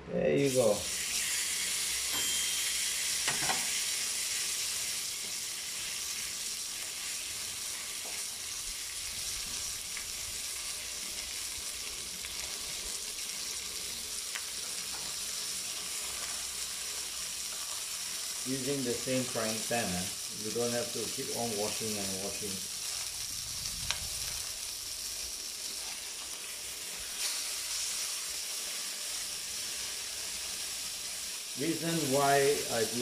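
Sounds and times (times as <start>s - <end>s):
chicken sizzling in frying pan: 0.4s - 33.0s.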